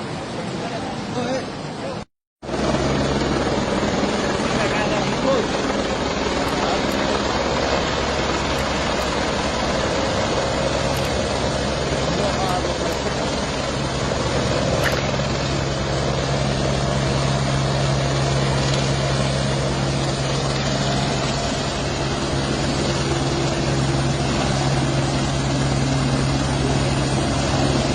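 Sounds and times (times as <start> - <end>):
helicopter drone: 0.0 - 27.9
steady rushing noise: 0.0 - 27.9.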